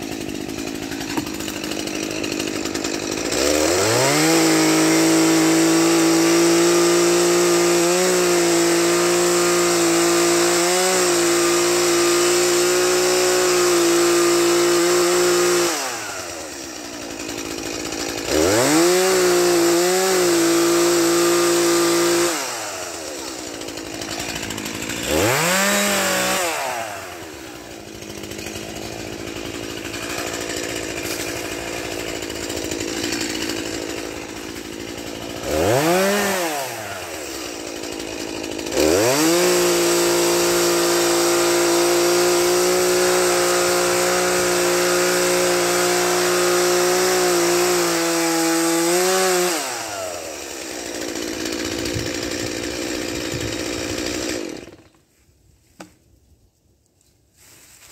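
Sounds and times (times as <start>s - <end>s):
chainsaw revving and idling: 0.0s - 55.0s.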